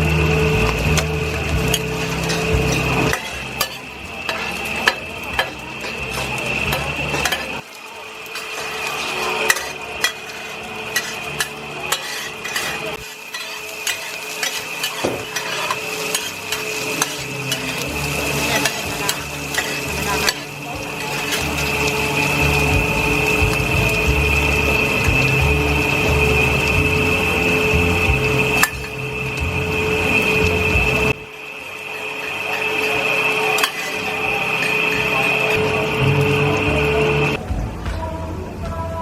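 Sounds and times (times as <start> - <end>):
metal utensil scraping a pan: 0.0 - 31.2, 31.8 - 37.4
food sizzling in a pan: 0.0 - 37.4.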